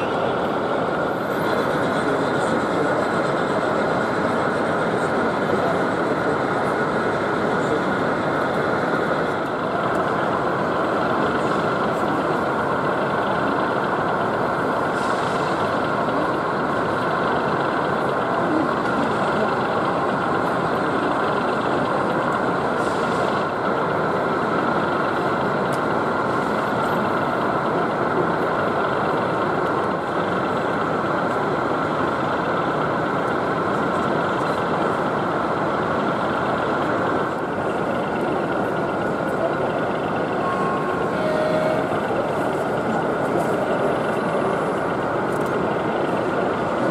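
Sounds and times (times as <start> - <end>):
crowd noise: 0.0 - 46.9.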